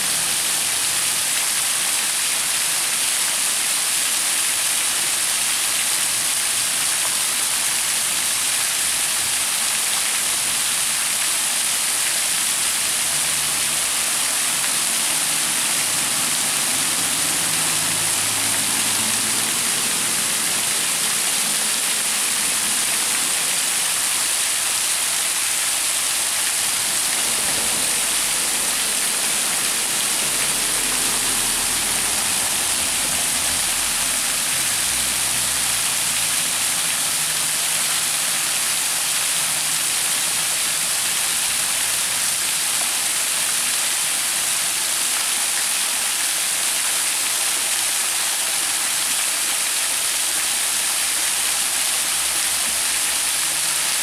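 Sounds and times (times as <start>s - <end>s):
small waterfall splashing on rocks: 0.0s - 54.0s.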